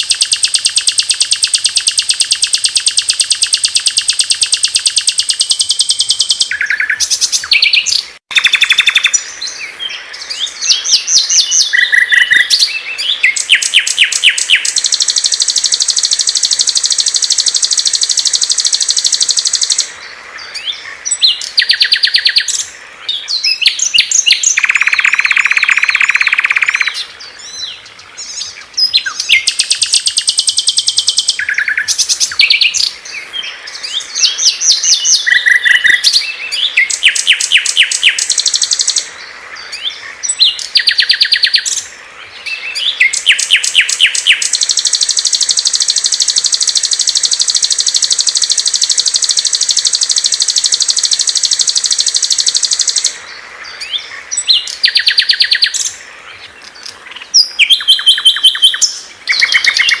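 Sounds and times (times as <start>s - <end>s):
songbirds trilling and chirping: 0.0s - 60.0s.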